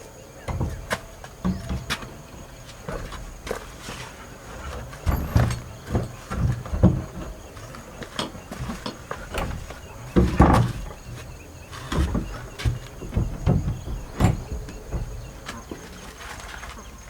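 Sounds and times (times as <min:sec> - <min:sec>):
scraping: 0:00.3 - 0:17.0
knocks and thuds: 0:00.5 - 0:17.0.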